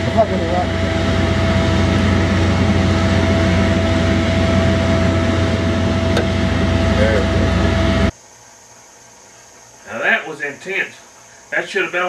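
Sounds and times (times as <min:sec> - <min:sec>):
machine drone with hum: 0:00.0 - 0:12.0.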